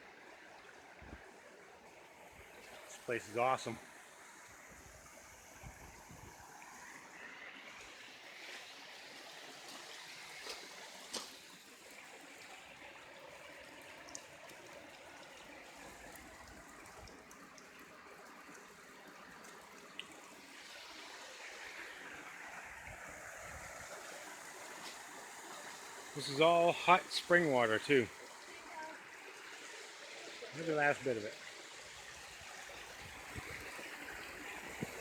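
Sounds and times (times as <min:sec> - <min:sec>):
water trickling in rocky stream: 0:00.0 - 0:35.0.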